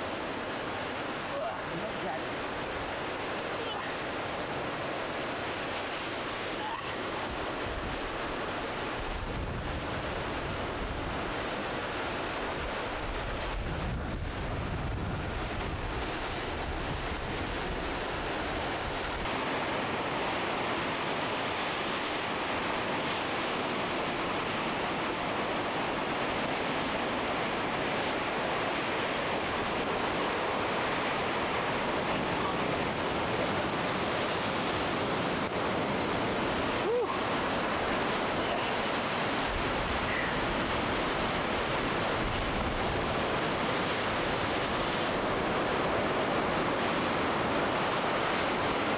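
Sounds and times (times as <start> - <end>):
sea surf rushing: 0.0 - 48.9
wind on microphone: 5.9 - 48.9.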